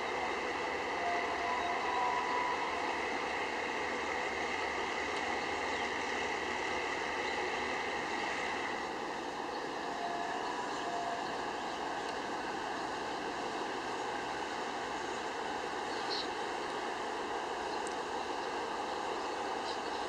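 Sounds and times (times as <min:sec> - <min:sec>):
distant train rumble and hiss: 0:00.0 - 0:20.0
faint high hum: 0:00.0 - 0:20.0.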